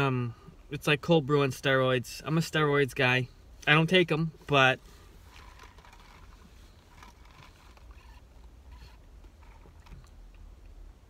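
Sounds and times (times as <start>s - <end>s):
low rumble in car cabin: 0.0s - 11.0s.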